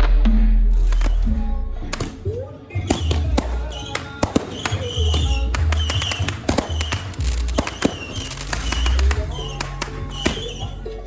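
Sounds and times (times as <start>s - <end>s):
fireworks cracking: 0.7s - 11.0s.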